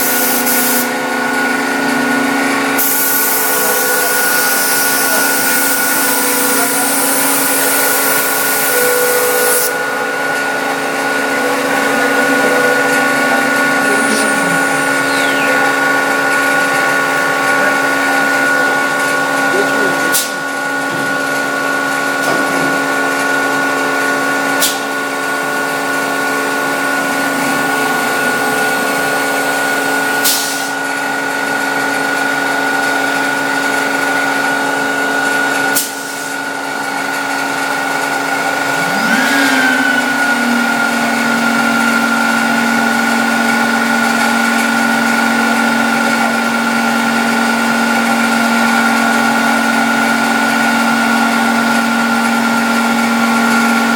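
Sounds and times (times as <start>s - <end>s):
cnc router spindle whine: 0.0s - 53.9s.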